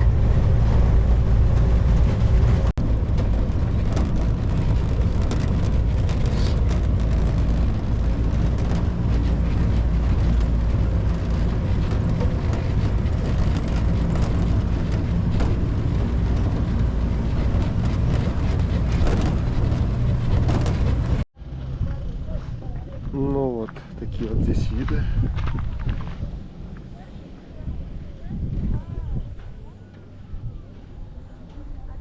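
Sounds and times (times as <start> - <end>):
road noise: 0.0 - 32.0
vehicle engine rumble: 0.0 - 32.0.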